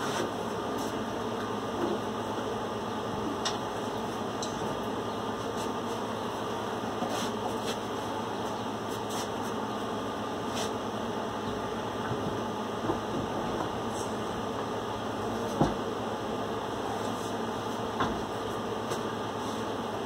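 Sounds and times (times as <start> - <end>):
fan-like whirring: 0.0 - 20.0.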